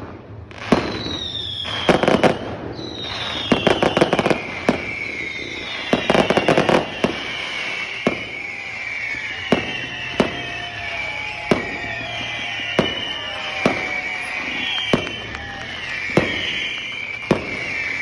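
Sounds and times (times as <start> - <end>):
firework bangs: 0.0 - 18.0
rockets whistling: 0.7 - 18.0.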